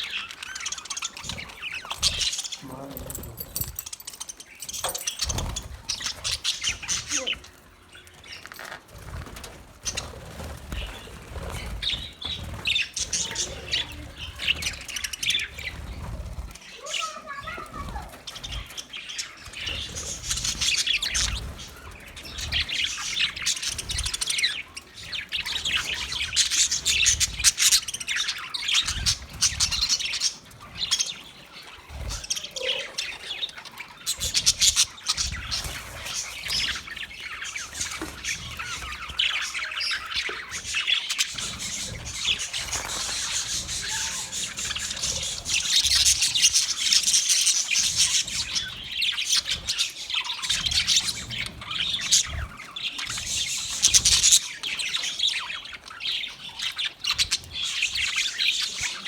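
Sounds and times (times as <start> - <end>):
budgerigars chirping and warbling: 0.0 - 59.0.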